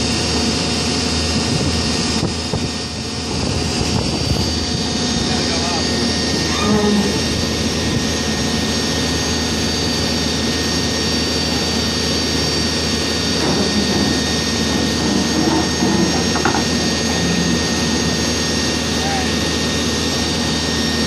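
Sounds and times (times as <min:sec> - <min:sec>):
diesel engine droning: 0:00.0 - 0:21.0
thin high whine: 0:03.7 - 0:21.0.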